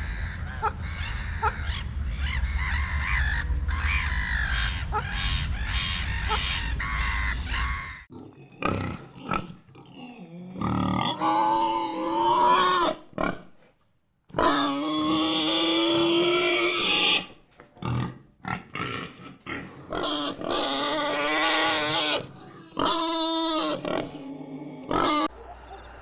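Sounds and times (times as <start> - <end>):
pig squealing: 0.0 - 13.6, 14.3 - 26.0.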